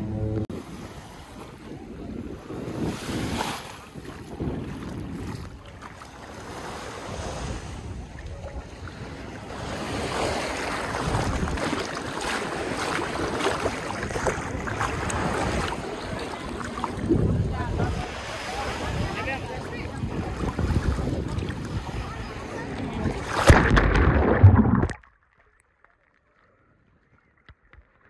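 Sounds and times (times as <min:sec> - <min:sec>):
wind buffeting microphone: 0:00.1 - 0:05.8, 0:06.4 - 0:24.9
small waves lapping on shore: 0:00.6 - 0:24.4.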